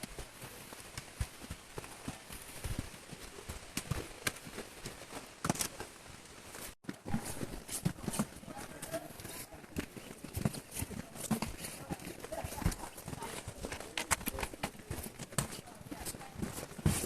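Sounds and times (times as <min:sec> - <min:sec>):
footsteps on a woodland trail: 0:00.0 - 0:17.0.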